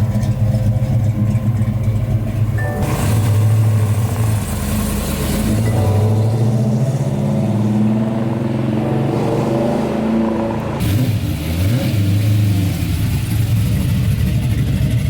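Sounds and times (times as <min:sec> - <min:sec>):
vehicle engine with loud exhaust: 0:00.0 - 0:15.0.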